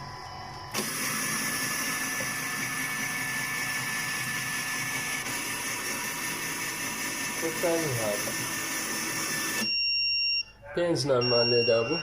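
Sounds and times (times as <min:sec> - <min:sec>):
kitchen appliance whirring: 0:00.0 - 0:09.8.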